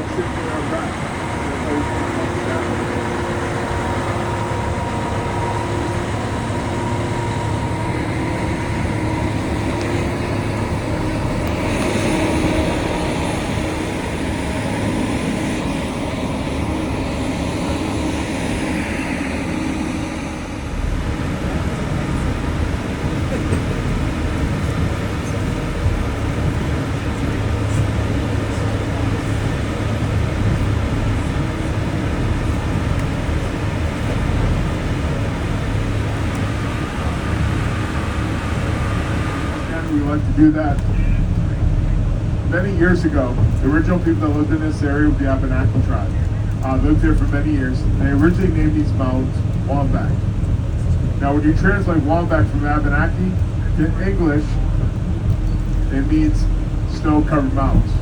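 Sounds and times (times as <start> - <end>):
train rumble and clatter: 0.0 - 58.0.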